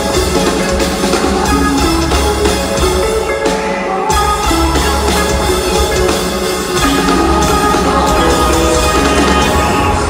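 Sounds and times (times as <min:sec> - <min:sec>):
drum kit playing: 0:00.0 - 0:10.0
live band music: 0:00.0 - 0:10.0.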